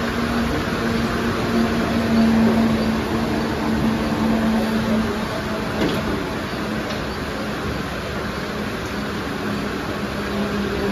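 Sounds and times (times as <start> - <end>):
electric train hum: 0.0 - 10.9.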